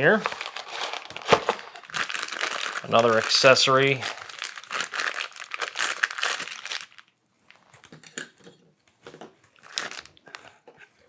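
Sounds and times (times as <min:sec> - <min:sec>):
packaging crinkling: 0:00.0 - 0:08.2, 0:09.6 - 0:10.5.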